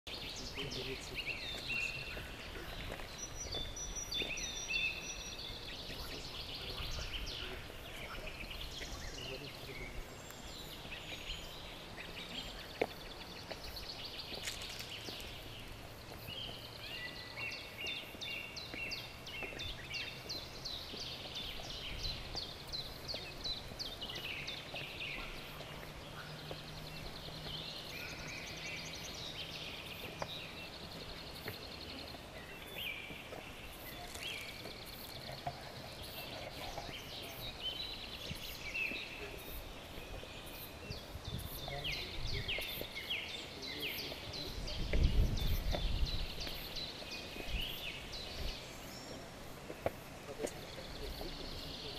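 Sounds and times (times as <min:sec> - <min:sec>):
birds chirping and trilling: 0:00.1 - 0:51.9
footsteps on stone steps: 0:00.1 - 0:51.9.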